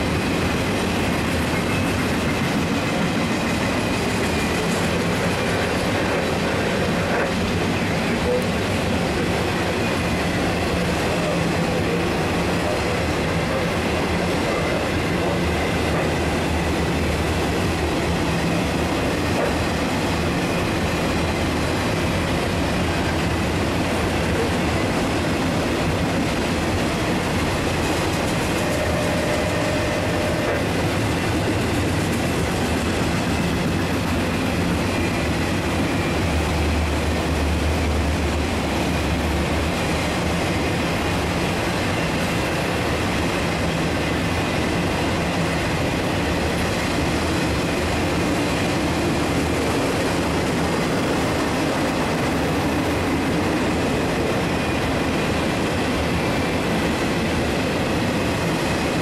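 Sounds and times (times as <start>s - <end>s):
steel train wheels rolling on rail: 0.0s - 59.0s.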